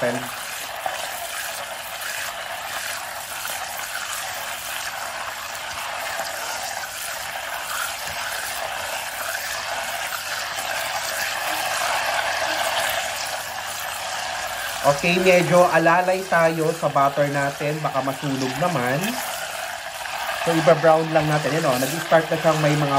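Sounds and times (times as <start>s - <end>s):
butter sizzling in a saucepan: 0.0s - 22.9s.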